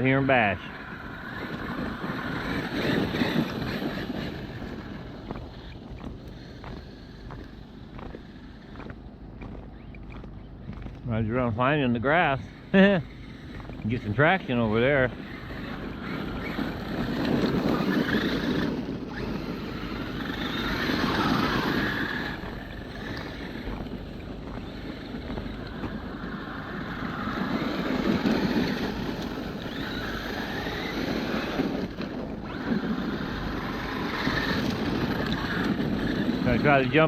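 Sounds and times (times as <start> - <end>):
rc truck motor whine: 0.0 - 37.0
tyre noise: 0.0 - 37.0.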